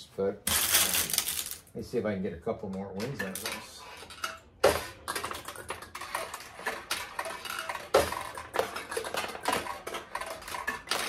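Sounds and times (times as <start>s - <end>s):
steel balls clattering in pachinko machine: 0.5s - 1.7s, 2.9s - 11.0s.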